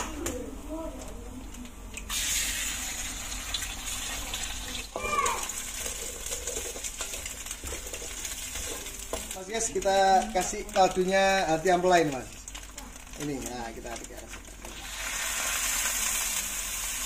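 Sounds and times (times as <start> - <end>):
egg sizzling in oil: 2.0 - 17.0.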